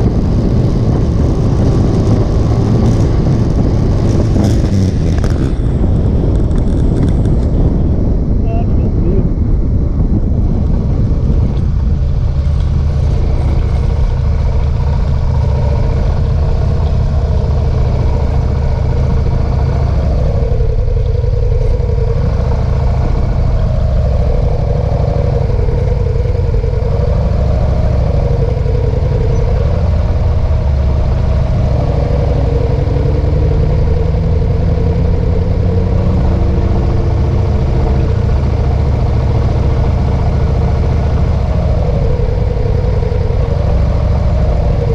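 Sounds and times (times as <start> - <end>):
wind noise of riding: 0.0 - 44.9.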